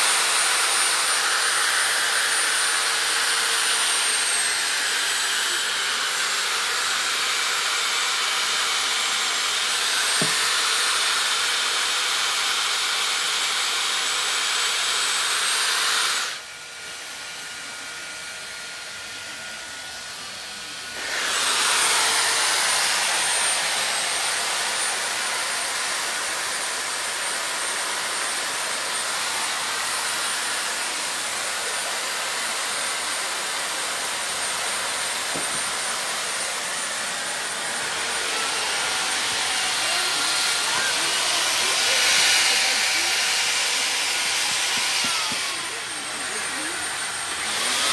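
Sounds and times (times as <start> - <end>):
chainsaw cutting ice: 0.0 - 47.9.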